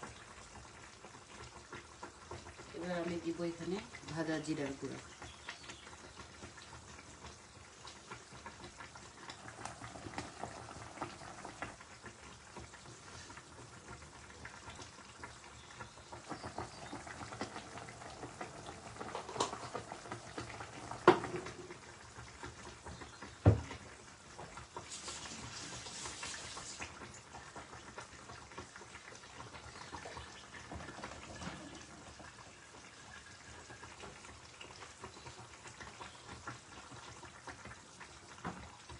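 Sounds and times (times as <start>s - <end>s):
curry simmering and bubbling: 0.0s - 38.9s.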